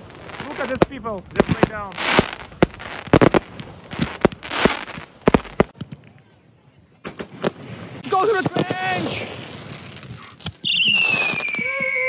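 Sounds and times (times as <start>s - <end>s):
firework rushing hiss: 0.0s - 5.8s, 7.2s - 12.0s
fireworks bangs and crackles: 0.0s - 6.2s, 7.0s - 12.0s.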